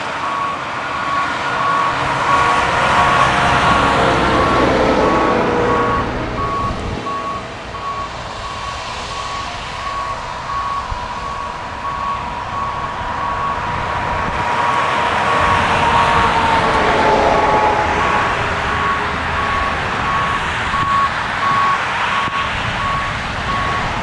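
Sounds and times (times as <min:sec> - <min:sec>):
engine running: 0:00.0 - 0:24.0
backup alarm beeping: 0:00.2 - 0:24.0.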